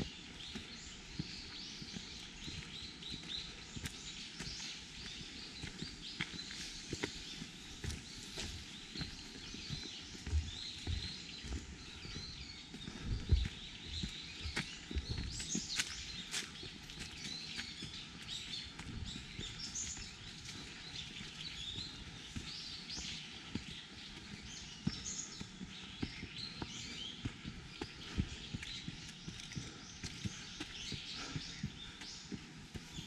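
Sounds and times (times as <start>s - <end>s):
footsteps on a path: 0.0s - 33.0s
small birds chirping: 0.0s - 33.0s.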